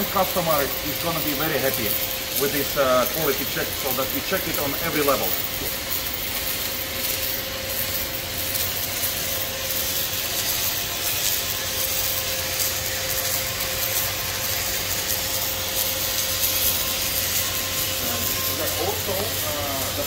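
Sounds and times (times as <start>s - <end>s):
constant machinery hum: 0.0s - 20.0s
welding machinery hiss: 0.0s - 20.0s.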